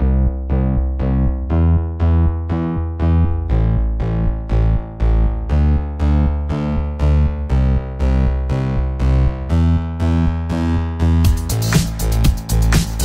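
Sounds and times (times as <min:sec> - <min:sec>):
keyboard notes music: 0:00.0 - 0:13.0.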